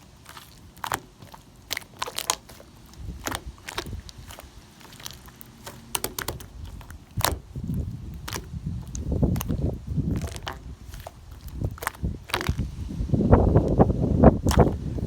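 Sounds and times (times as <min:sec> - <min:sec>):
slime crackling and crunching: 0:00.0 - 0:13.8, 0:14.4 - 0:15.0.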